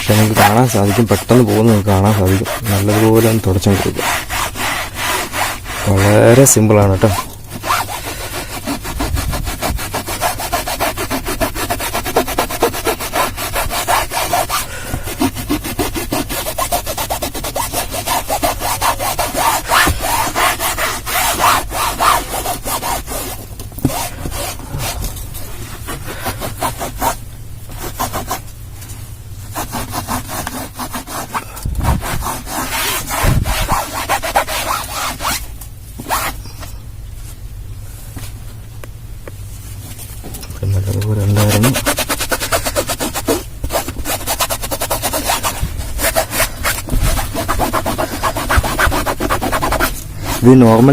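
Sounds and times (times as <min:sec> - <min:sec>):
towel scrubbing upholstery: 0:00.0 - 0:28.5, 0:29.4 - 0:36.4, 0:40.8 - 0:50.9.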